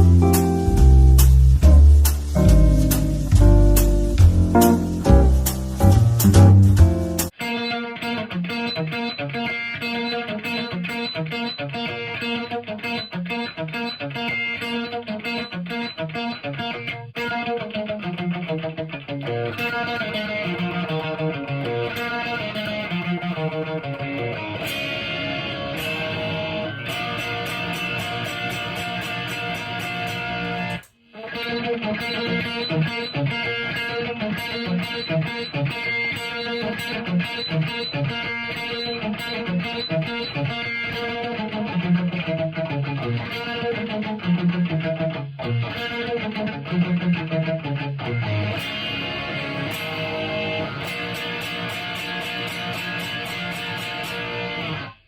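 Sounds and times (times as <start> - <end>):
electric guitar riff: 0.0 - 55.0.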